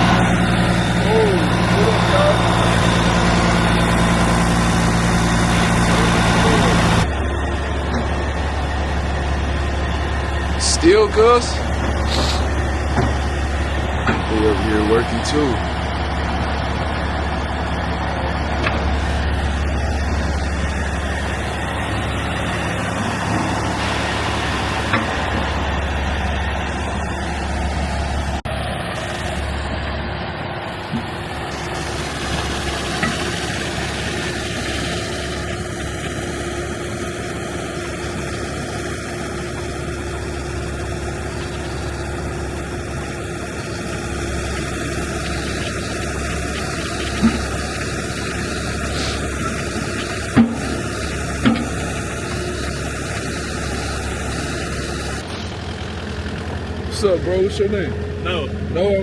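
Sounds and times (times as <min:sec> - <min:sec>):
heavy vehicle engine droning: 0:00.0 - 0:59.0.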